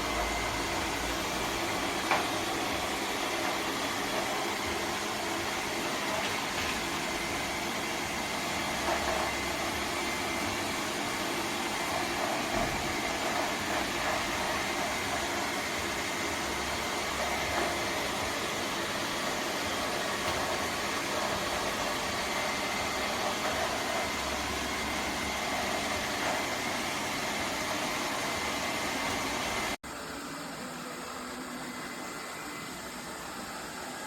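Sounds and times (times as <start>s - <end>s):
robot vacuum whirring: 0.0s - 34.0s.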